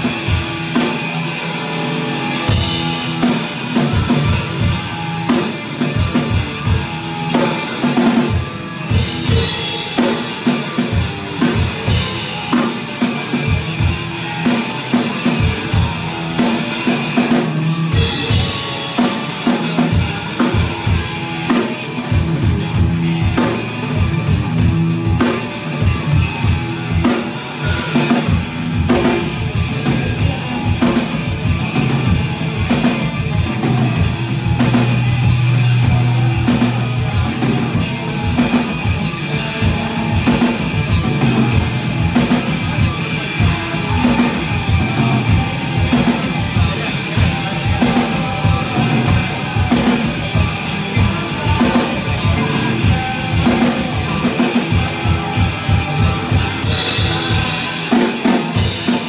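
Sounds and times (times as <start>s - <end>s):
electric guitar: 0.0s - 59.0s
rock band playing: 0.0s - 59.0s.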